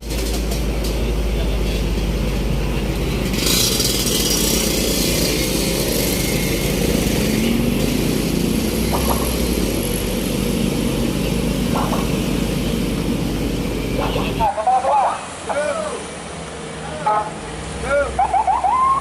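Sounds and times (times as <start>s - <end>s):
heavy vehicle engine rumbling: 0.0s - 19.0s
road traffic noise: 0.0s - 19.0s.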